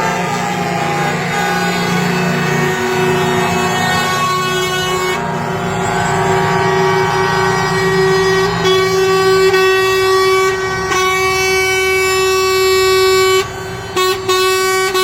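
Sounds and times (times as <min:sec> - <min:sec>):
low engine rumble: 0:00.0 - 0:15.0
short horn toots: 0:00.0 - 0:15.0
vehicle horns blaring: 0:00.0 - 0:15.0.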